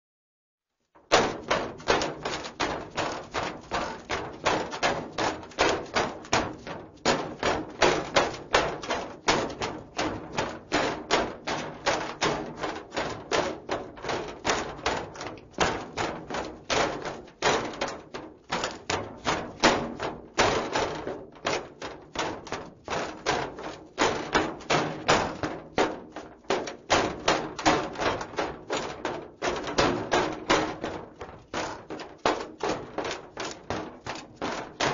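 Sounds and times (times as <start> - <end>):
footsteps running on metal: 1.0 - 34.9.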